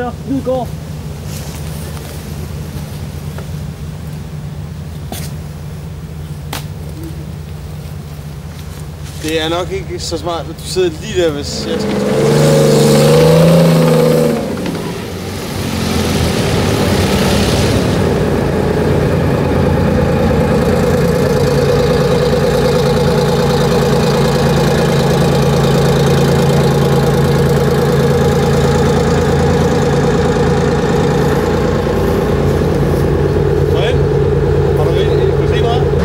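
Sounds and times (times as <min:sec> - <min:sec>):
tracked vehicle engine idling: 0:00.0 - 0:36.0.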